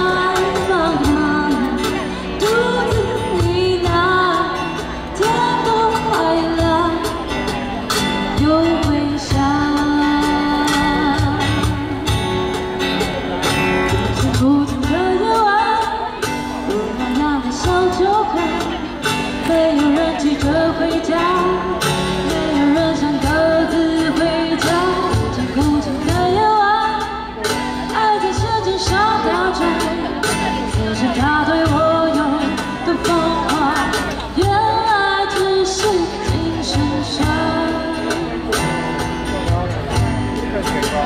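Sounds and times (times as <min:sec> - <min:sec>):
woman singing pop song: 0:00.0 - 0:12.9, 0:14.0 - 0:39.4
instrumental accompaniment: 0:00.0 - 0:41.0.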